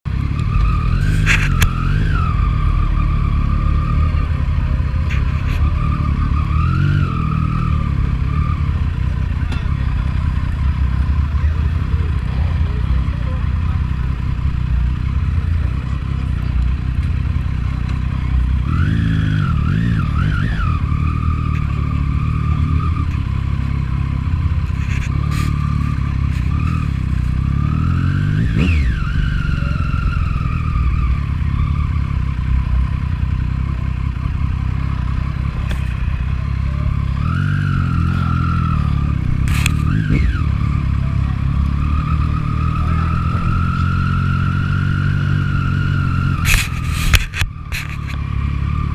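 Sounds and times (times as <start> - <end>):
motorcycle engine revving: 0.1 - 48.9.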